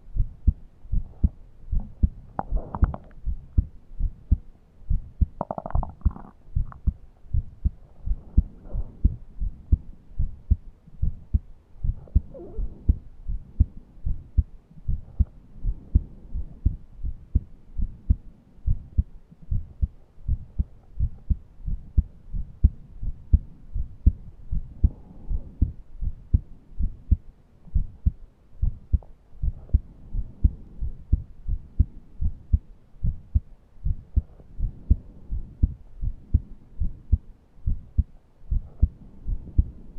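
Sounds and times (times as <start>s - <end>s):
heartbeat: 0.0s - 39.9s.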